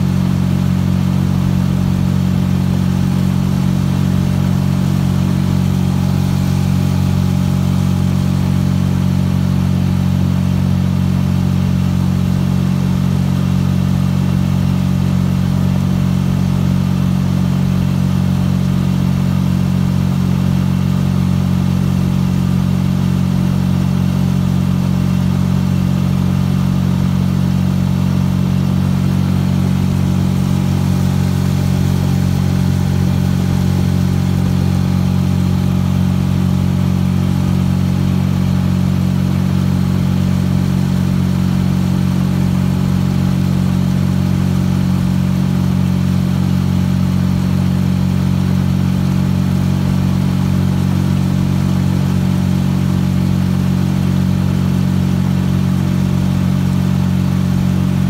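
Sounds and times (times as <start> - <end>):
outboard motor drone: 0.0 - 58.0.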